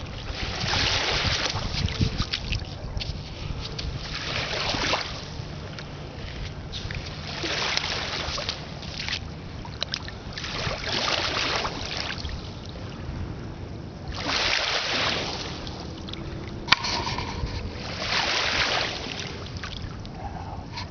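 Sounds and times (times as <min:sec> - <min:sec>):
waves lapping on shore: 0:00.0 - 0:20.9
wind on microphone: 0:00.0 - 0:20.9.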